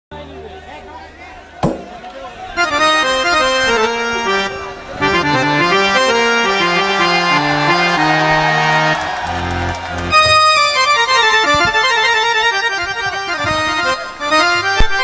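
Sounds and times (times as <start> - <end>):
free-reed keyboard melody: 0.2 - 15.0.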